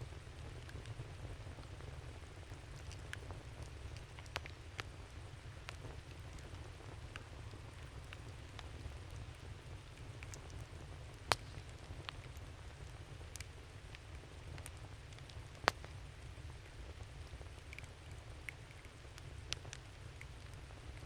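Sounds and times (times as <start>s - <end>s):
campfire crackling and popping: 0.1s - 21.0s.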